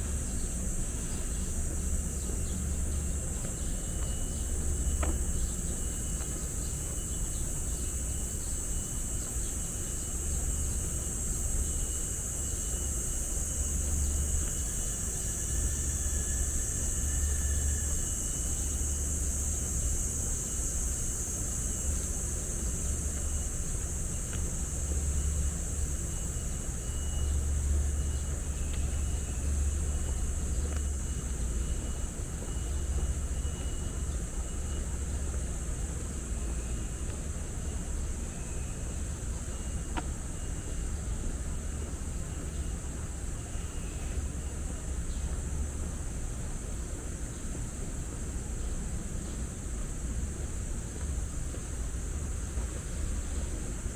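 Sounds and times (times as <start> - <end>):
high-pitched hiss: 0.0 - 46.0
insects droning: 0.0 - 53.9
low rumble of city traffic: 0.0 - 53.9.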